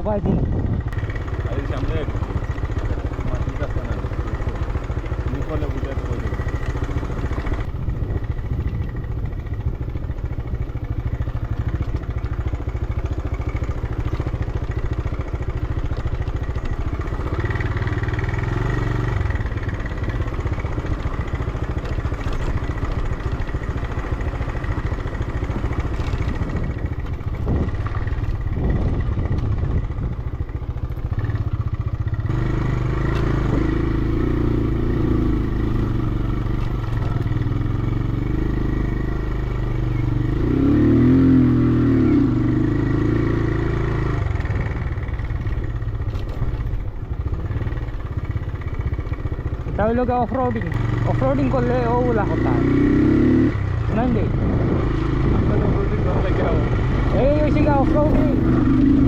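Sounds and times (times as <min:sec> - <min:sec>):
motorcycle engine revving: 0:00.4 - 0:59.0.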